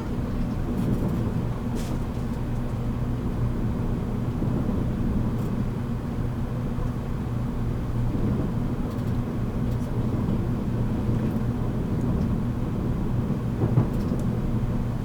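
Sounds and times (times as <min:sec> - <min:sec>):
train interior hum and rumble: 0:00.0 - 0:15.0.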